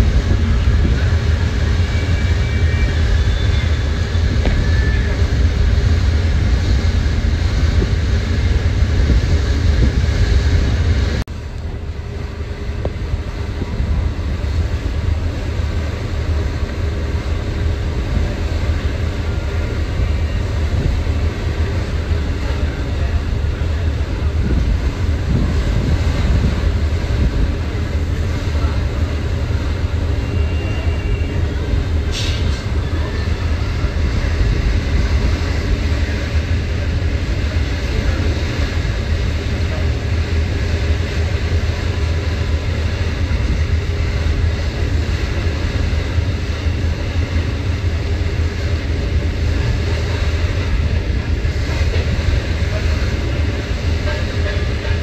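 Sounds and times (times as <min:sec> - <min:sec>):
ferry engine rumble: 0:00.0 - 0:55.0
wind and water rushing: 0:00.0 - 0:55.0.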